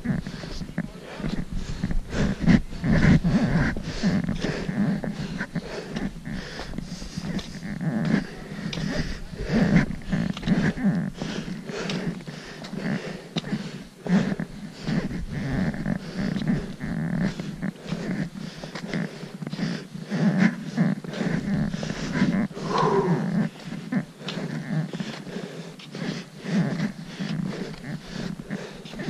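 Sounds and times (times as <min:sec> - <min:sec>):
person breathing: 0:00.1 - 0:29.0.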